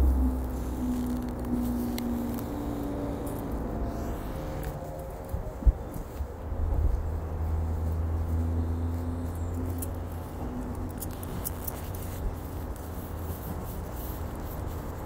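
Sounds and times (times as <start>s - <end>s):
distant engine drone: 0.0s - 15.0s
outdoor noise: 0.0s - 15.0s.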